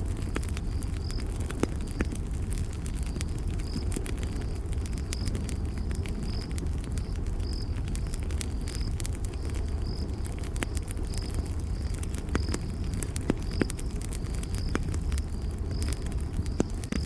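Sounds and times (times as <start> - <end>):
campfire crackling and popping: 0.0 - 17.0
cricket chirping: 0.1 - 17.0.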